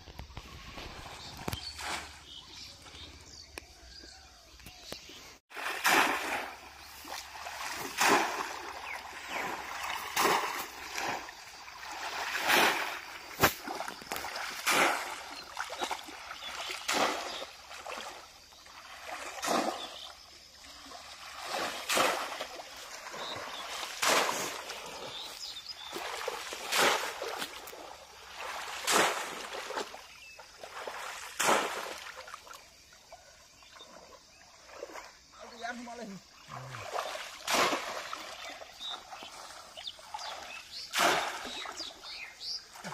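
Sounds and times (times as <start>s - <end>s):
pond water splashing: 0.0s - 42.9s.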